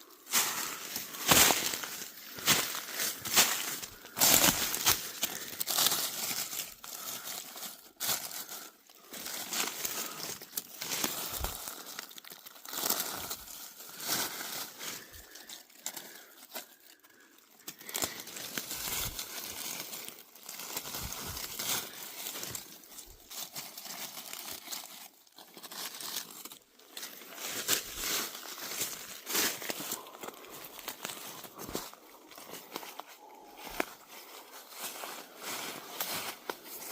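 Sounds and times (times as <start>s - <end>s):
dry leaves crunching and rustling: 0.0s - 36.9s.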